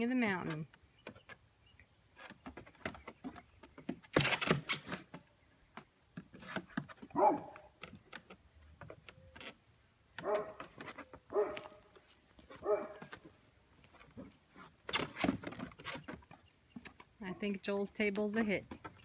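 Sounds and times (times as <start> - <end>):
goat hooves clattering on plywood: 0.2 - 19.0.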